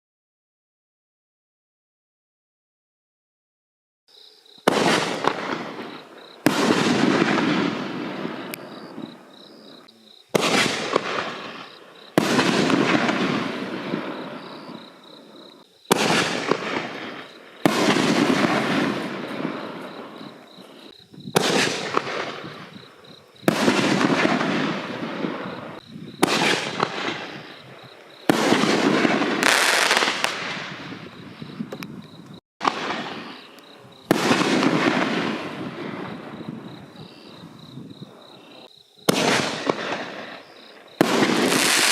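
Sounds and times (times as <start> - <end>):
firework booms: 4.6 - 41.9
firework crackle and rumble: 4.6 - 41.9.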